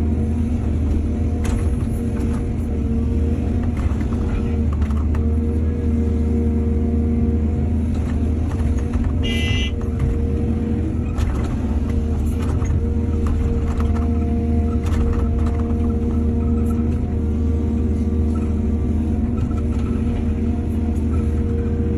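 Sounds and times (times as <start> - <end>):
excavator diesel engine rumbling: 0.0 - 21.9.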